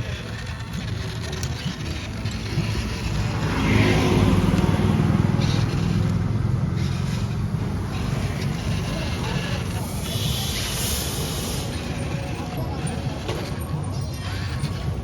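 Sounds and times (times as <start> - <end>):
toy tractor pulsing drone: 0.0 - 15.0.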